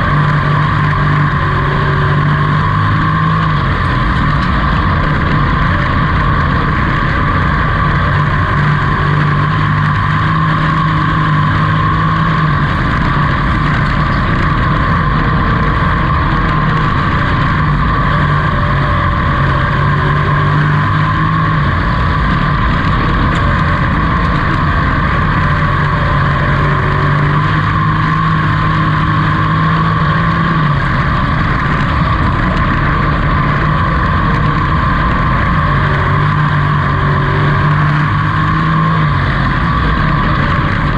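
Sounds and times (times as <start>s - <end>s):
race truck engine running hard: 0.0s - 40.9s.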